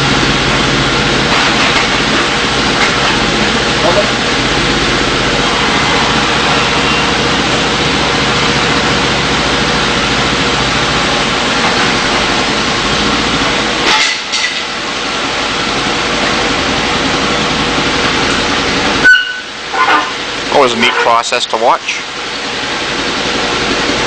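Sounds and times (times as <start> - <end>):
forklift engine running: 0.0 - 24.0.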